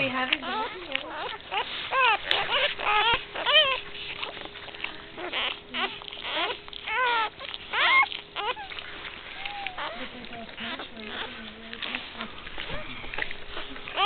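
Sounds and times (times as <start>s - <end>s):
puppies crying: 0.0s - 14.0s.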